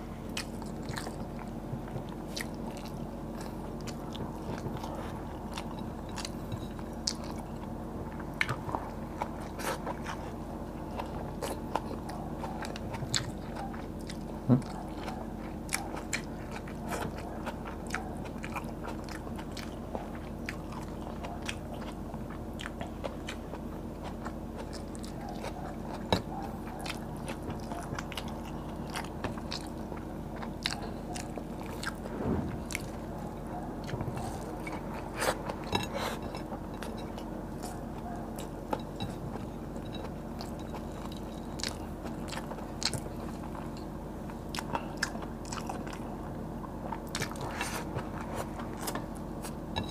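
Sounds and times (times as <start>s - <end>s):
chewing and crunching: 0.0s - 49.9s
low steady hum: 0.0s - 49.9s.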